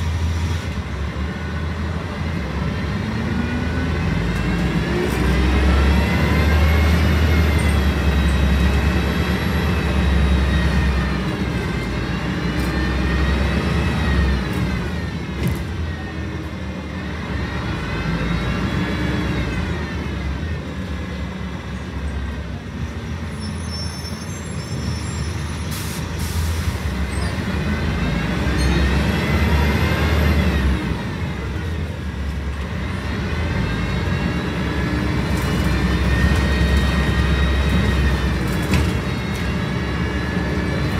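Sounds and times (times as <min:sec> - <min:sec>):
bus diesel engine rumble: 0:00.0 - 0:40.9.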